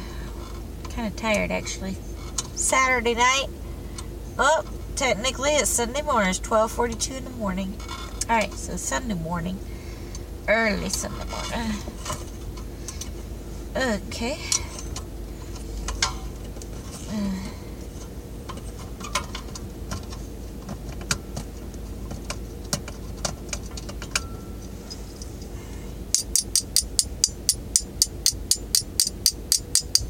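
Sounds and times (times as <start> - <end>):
idling car hum: 0.0 - 30.0.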